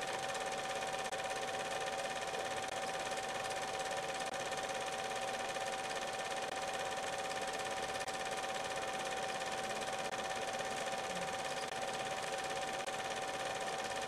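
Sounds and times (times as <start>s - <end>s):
film projector whirring: 0.0s - 14.0s.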